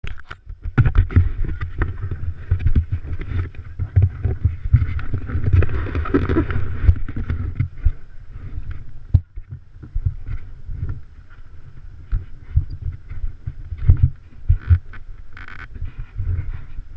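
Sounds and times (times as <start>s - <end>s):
wind buffeting microphone: 0.4s - 16.9s.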